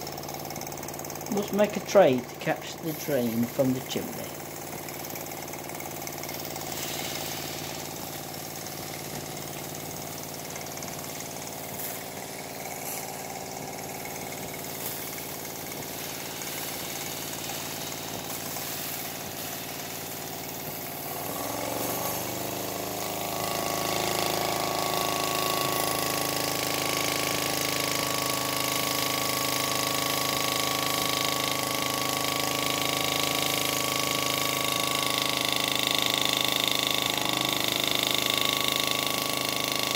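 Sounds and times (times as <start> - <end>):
small steam engine running: 0.0 - 39.9.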